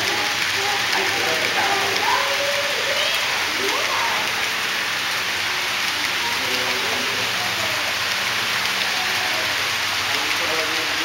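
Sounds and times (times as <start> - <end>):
model train cars rolling on track: 0.0 - 11.0.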